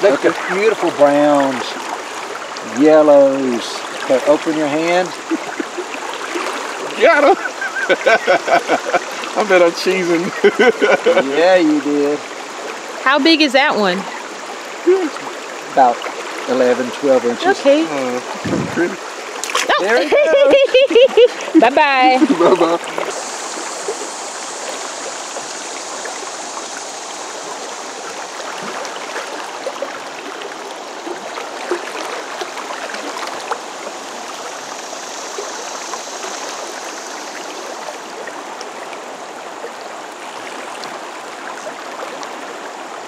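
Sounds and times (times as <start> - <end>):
river water rushing and babbling: 0.0 - 43.0.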